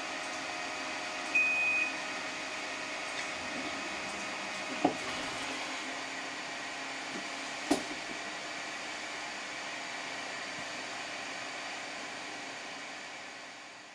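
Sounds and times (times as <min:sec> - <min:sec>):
printer fans and motors whirring: 0:00.0 - 0:13.9.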